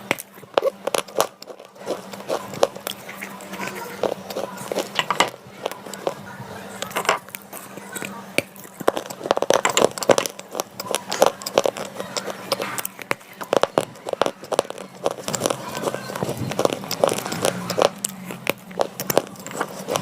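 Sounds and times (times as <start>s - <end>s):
chewing crunches: 0.0s - 20.0s.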